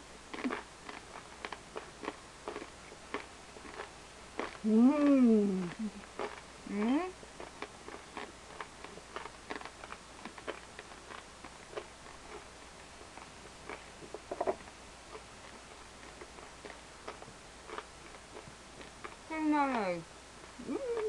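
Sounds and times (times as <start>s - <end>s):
chewing crunchy coffee beans: 0.3s - 20.0s, 20.6s - 21.0s.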